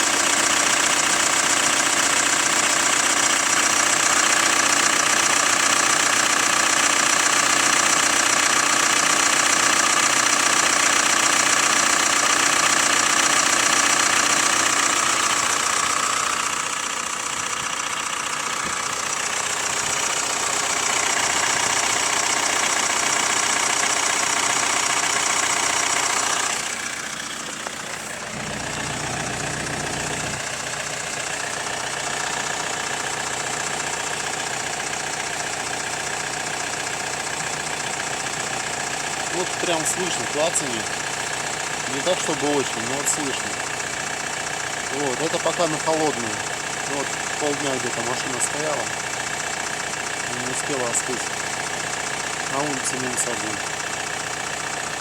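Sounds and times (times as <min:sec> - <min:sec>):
diesel engine idling with clacking knock: 0:00.0 - 0:55.0.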